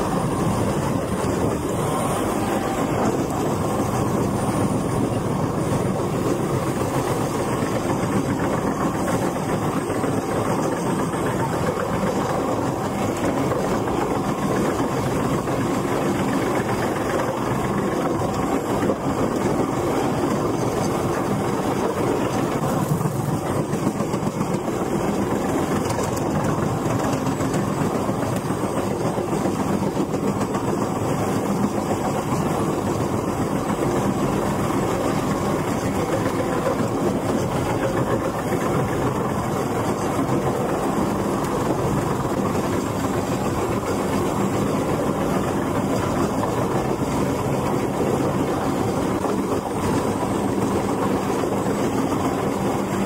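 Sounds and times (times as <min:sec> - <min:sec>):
heavy diesel machinery running: 0:00.0 - 0:53.0.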